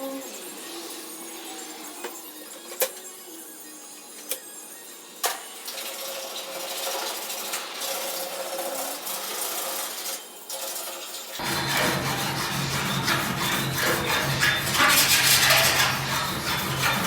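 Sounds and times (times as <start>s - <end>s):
small motorized tool running: 0.0s - 17.0s.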